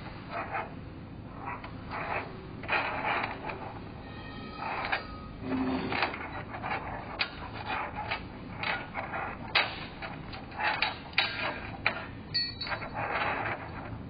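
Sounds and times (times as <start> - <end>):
metal strip clicking and scraping: 1.4 - 3.8, 4.6 - 14.0.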